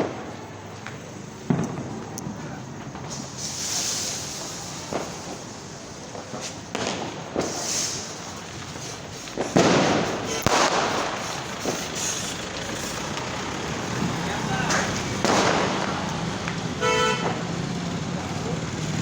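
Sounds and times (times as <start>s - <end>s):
crackling firecracker burst: 0.0s - 19.0s
firecracker bangs and pops: 0.0s - 19.0s
firework hissing: 0.0s - 19.0s.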